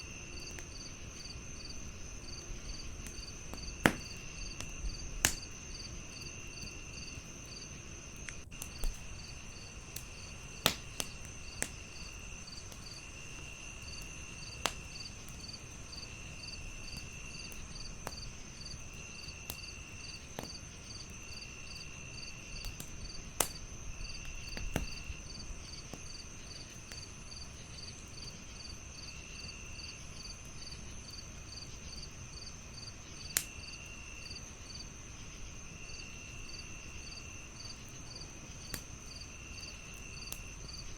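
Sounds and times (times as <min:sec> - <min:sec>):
crickets chirping: 0:00.0 - 0:40.9
wood fire crackling and popping: 0:00.2 - 0:40.9.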